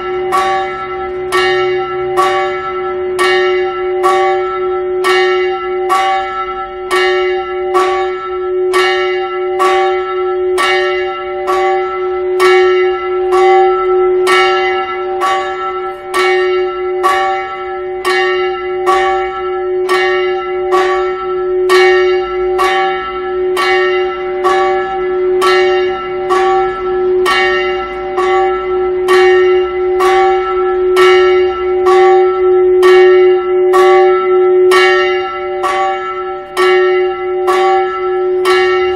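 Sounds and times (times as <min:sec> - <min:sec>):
church bell ringing: 0:00.0 - 0:38.9.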